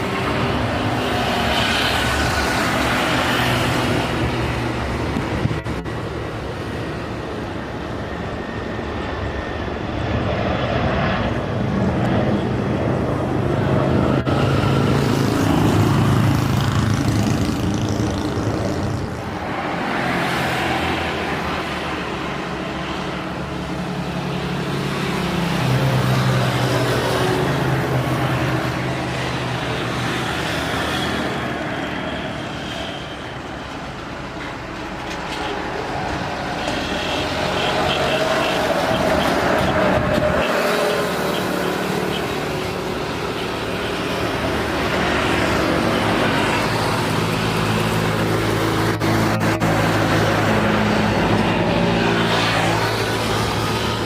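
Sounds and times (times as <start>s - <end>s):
aircraft engine: 0.0s - 54.0s
passing vehicles: 0.0s - 54.0s.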